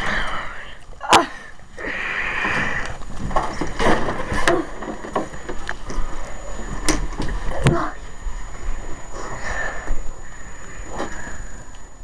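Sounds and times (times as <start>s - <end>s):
rustling and handling noise: 2.4s - 12.0s.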